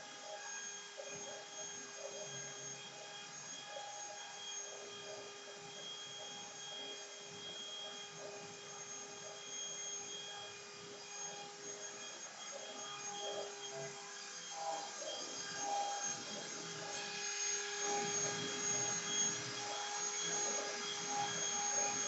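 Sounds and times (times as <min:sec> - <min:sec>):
cnc router motor whine: 0:00.1 - 0:22.0.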